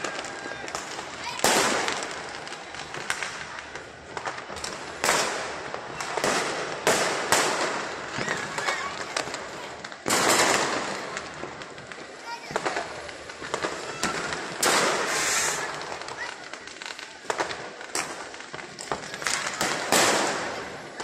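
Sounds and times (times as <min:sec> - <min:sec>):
distant popping and crackling: 0:00.0 - 0:21.0
firework bangs echoing: 0:00.0 - 0:21.0.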